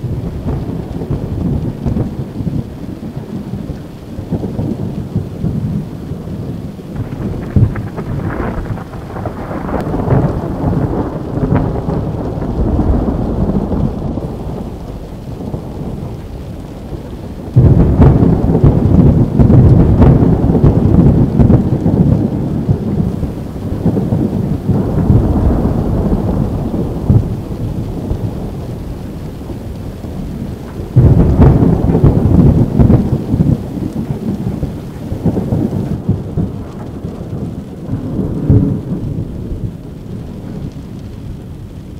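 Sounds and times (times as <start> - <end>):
loud thunder claps: 0.0 - 41.9
steady rain: 0.0 - 41.9
thunder rumbling: 0.0 - 41.9.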